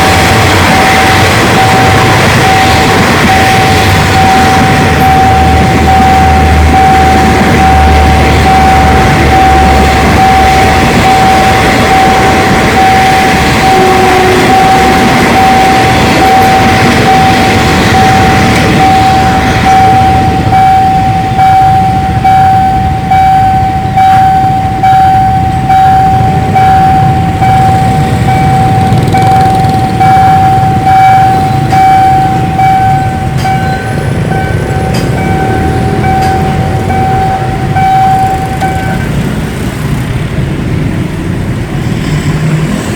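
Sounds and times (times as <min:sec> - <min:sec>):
level crossing alarm pulsing: 0:00.0 - 0:39.6
train passing: 0:00.0 - 0:42.9.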